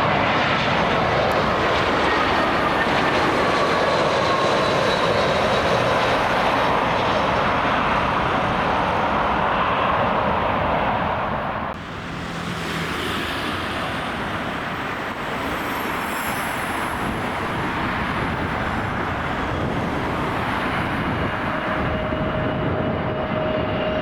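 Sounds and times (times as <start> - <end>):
jet engine rushing: 0.0 - 24.0.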